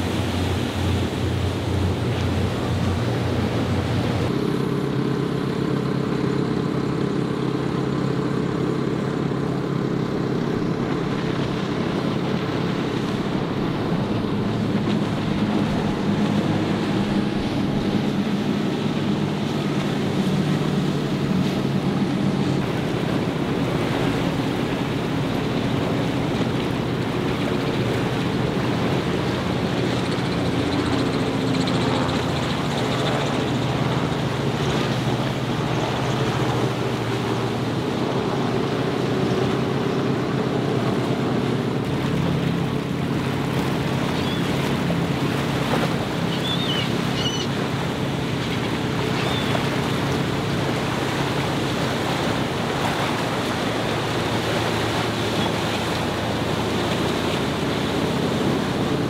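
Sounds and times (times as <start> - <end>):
powerboat engines running: 0.0 - 59.0
waves splashing: 0.0 - 59.0.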